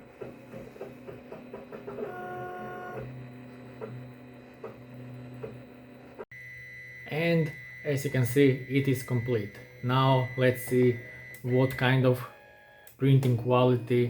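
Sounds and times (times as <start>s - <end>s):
printer stepper motors whining: 0.0s - 14.0s.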